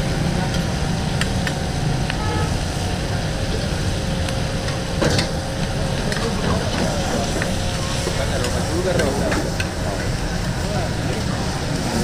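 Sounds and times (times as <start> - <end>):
rumbling street stall noise: 0.0 - 12.0.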